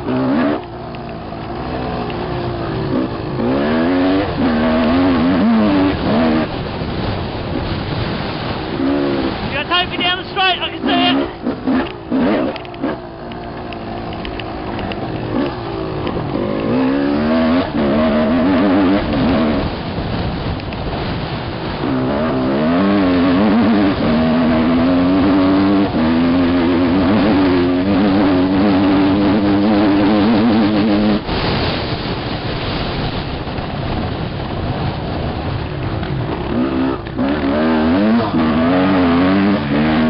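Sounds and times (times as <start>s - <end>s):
dirt bike engine revving: 0.0s - 31.7s, 35.2s - 40.0s.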